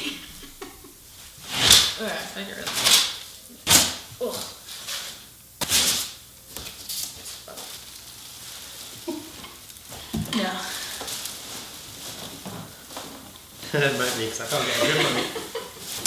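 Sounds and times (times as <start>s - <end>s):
cardboard and plastic packaging rustling: 0.5s - 16.0s.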